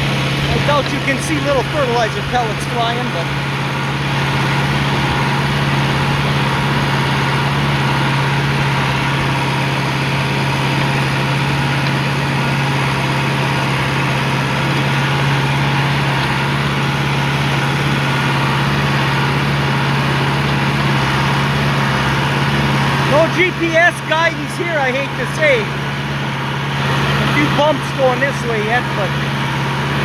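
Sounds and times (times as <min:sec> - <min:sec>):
tractor engine droning: 0:00.0 - 0:30.0.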